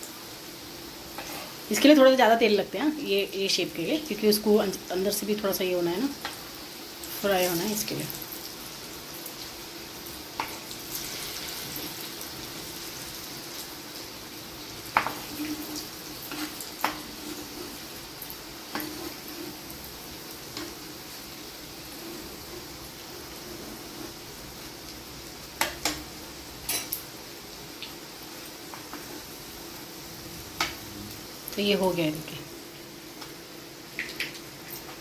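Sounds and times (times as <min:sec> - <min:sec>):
food sizzling in oil: 0:00.0 - 0:35.0.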